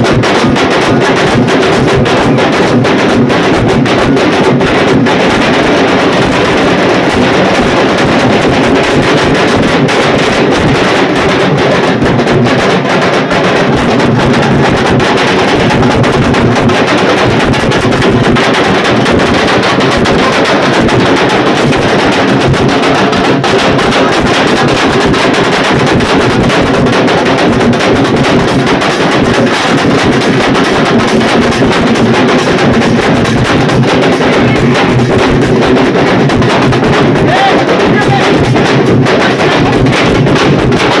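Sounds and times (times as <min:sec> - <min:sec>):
dhol drums beaten fast: 0:00.0 - 0:41.0.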